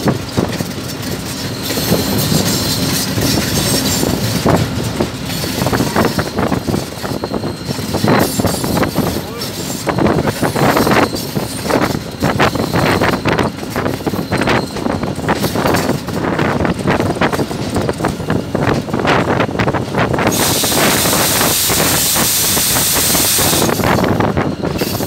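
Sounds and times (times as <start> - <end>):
diesel locomotive rumbling: 0.0 - 25.0
wheels clattering on rails: 0.0 - 25.0.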